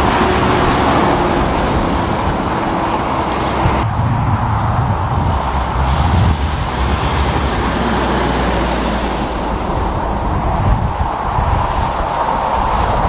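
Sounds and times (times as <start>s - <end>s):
heavy truck engine rumbling: 0.0s - 13.0s
road traffic: 0.0s - 13.0s.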